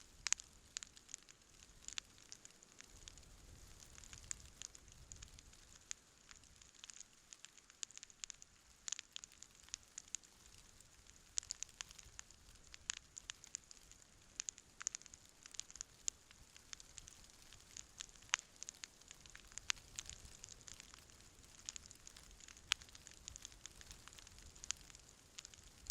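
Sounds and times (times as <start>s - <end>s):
campfire crackling: 0.0s - 25.9s.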